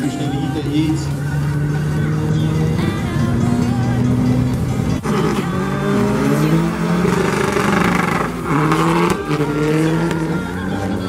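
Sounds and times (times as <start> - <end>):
background music: 0.0 - 11.0
car engines revving: 0.0 - 11.0.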